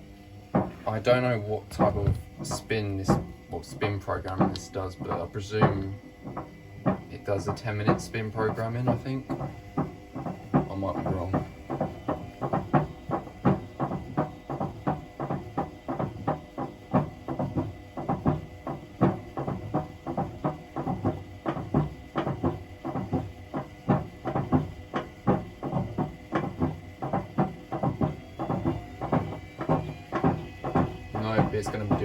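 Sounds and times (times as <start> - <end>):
low motor hum: 0.0 - 32.0
washing machine drum knocking: 0.5 - 32.0.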